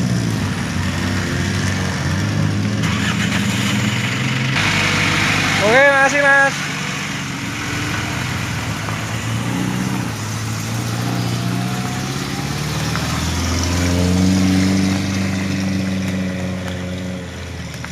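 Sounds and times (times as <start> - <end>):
jeep engine revving: 0.0 - 17.9.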